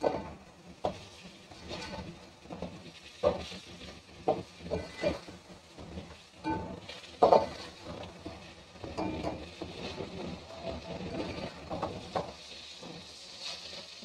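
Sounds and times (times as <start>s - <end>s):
metal spoon scraping a pot: 0.0s - 3.5s, 4.3s - 13.8s
meat frying in oil: 0.0s - 14.0s.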